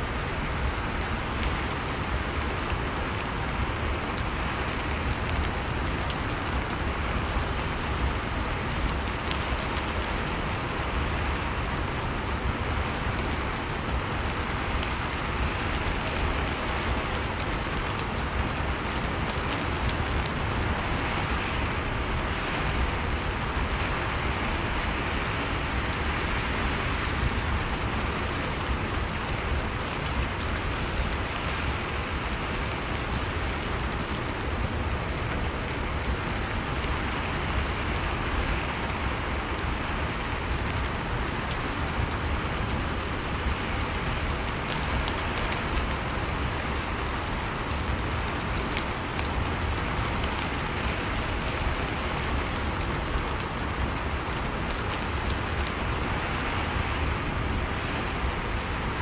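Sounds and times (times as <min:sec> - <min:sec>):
rain falling: 0:00.0 - 0:59.0
faint raindrop ticks: 0:00.1 - 0:59.0.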